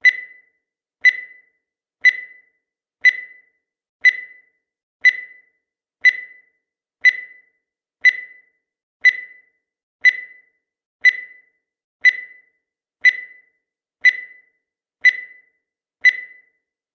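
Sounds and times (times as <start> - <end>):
short high-pitched beeps: 0.0 - 16.6.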